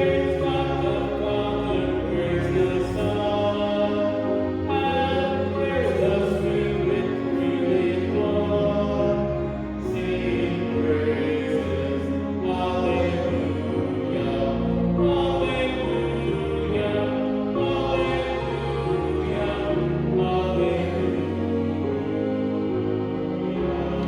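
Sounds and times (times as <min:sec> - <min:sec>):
voices singing held notes: 0:00.0 - 0:24.0.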